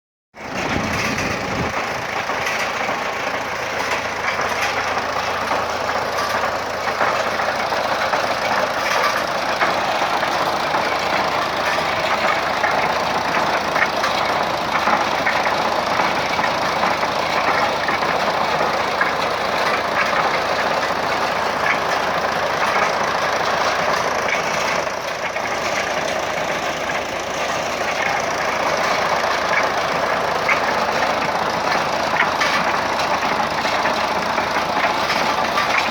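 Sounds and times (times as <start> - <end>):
drilling rig engine running: 0.4 - 35.9.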